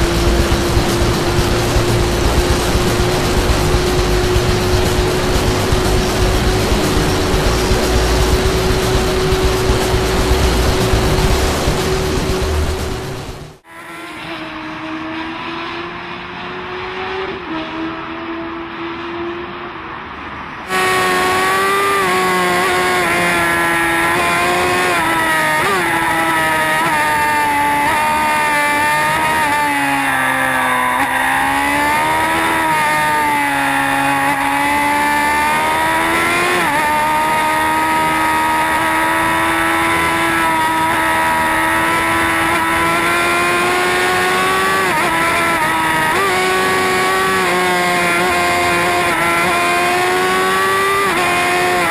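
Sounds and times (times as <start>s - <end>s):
motorcycle engine at high revs: 0.0s - 19.6s, 20.7s - 51.9s.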